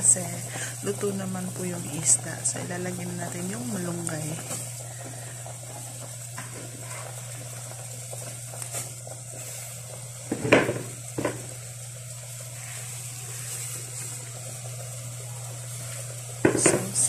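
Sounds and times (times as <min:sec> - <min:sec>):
soup bubbling in a pot: 0:00.0 - 0:16.9
steady low hum: 0:00.0 - 0:17.0.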